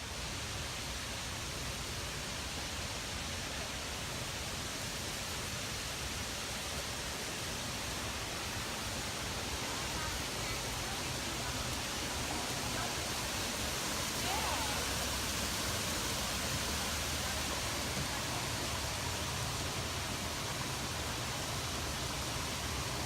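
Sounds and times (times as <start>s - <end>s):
waterfall rushing hiss: 0.0s - 23.0s.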